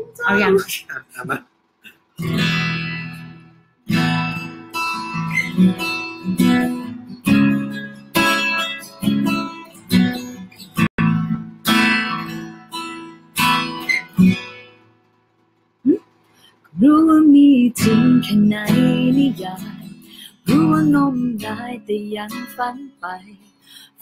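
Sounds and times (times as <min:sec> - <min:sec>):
acoustic guitar strumming chords: 0:01.6 - 0:24.0.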